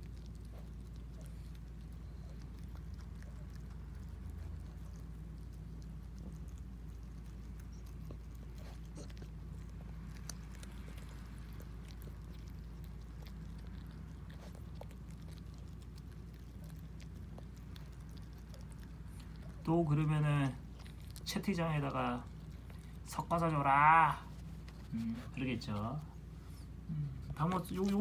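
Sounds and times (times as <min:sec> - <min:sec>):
dog chewing crunchy food: 0:00.0 - 0:28.0
steady low hum: 0:00.0 - 0:28.0.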